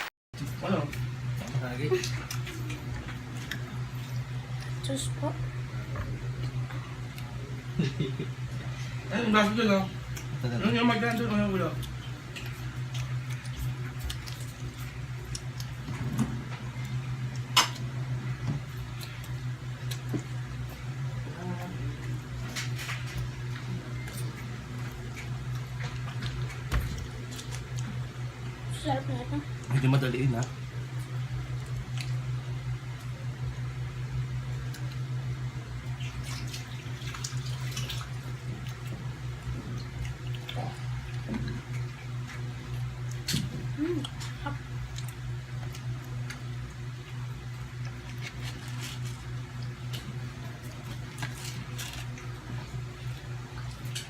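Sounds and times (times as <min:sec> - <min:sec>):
steady low hum: 0:00.0 - 0:54.0
soft eating noises: 0:00.4 - 0:54.0
children chewing: 0:00.8 - 0:09.0, 0:10.0 - 0:28.2, 0:29.5 - 0:33.2, 0:34.4 - 0:54.0.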